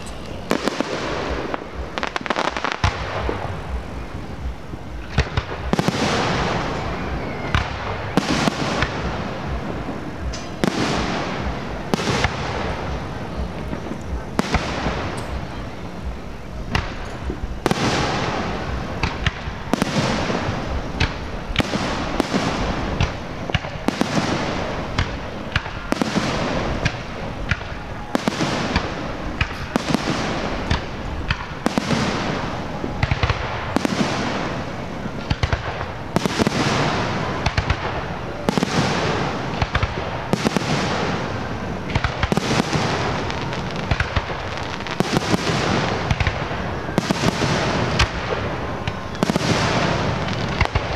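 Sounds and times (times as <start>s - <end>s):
fireworks bangs and bursts: 0.0s - 50.9s
fireworks crackle: 0.0s - 50.9s.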